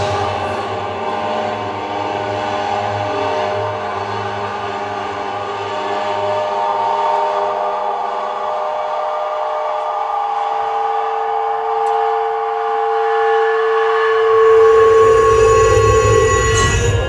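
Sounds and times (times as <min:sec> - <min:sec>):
sustained chord: 0:00.0 - 0:17.0.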